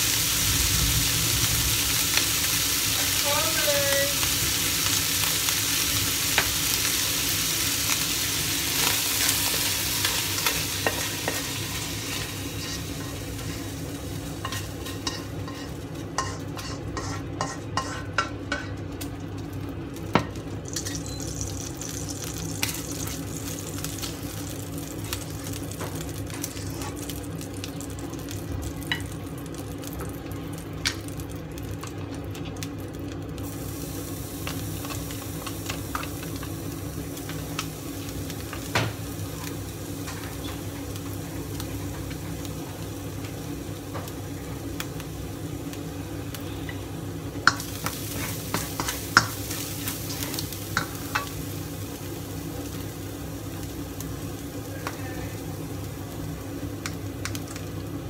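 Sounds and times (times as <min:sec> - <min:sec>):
garlic sizzling in oil: 0:00.0 - 0:58.0.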